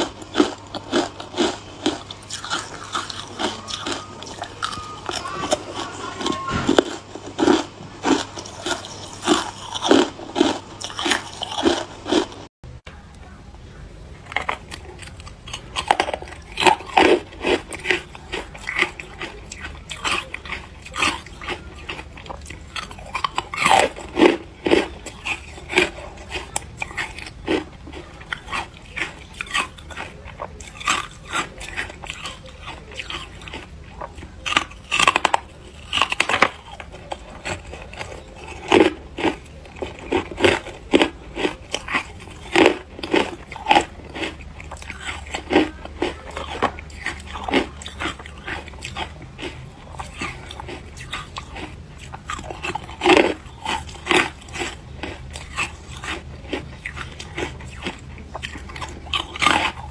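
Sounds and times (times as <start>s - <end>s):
ice crunched between teeth: 0.0s - 12.4s, 14.3s - 59.9s.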